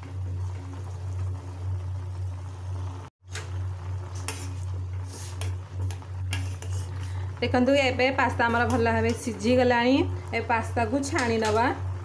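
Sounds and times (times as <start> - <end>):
steady low hum: 0.0 - 12.0
water boiling in pot: 0.0 - 12.0.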